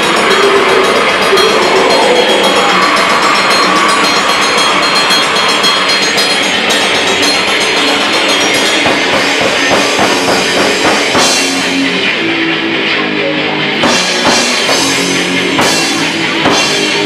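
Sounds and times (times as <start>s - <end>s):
distorted electric guitar: 0.0s - 17.0s
pounding drum kit: 0.0s - 17.0s
punk rock band playing: 0.0s - 17.0s.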